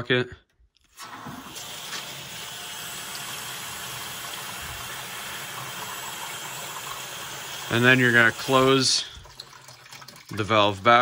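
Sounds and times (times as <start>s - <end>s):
water rushing into plastic bucket: 0.8s - 11.0s.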